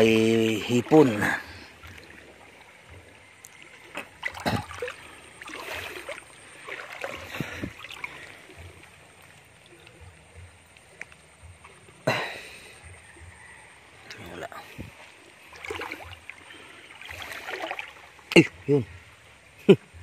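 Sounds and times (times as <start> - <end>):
shallow water splashing: 0.0 - 19.6
stream running: 0.0 - 20.0.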